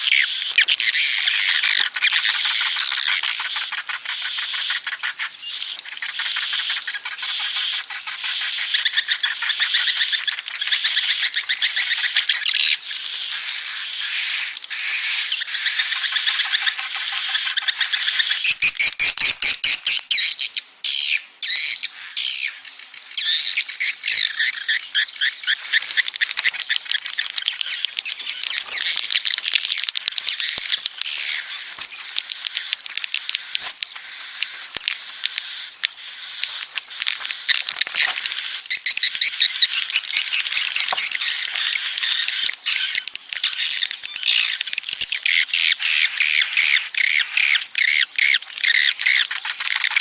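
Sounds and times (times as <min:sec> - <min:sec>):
repeated rising bird calls: 0:00.0 - 0:50.0
swiftlets chirping and twittering: 0:00.0 - 0:50.0.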